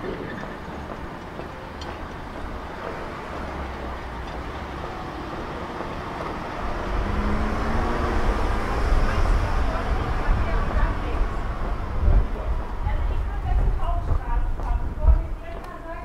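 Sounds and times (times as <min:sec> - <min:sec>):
low engine hum: 0:00.0 - 0:15.5
vehicle rumble: 0:00.0 - 0:16.0.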